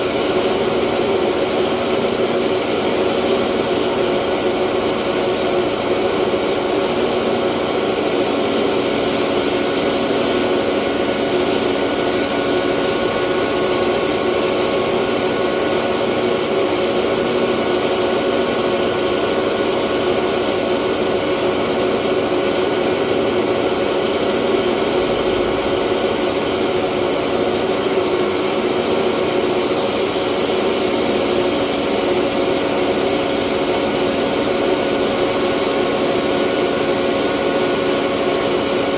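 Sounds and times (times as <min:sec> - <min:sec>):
rice mill machine whirring: 0:00.0 - 0:38.9.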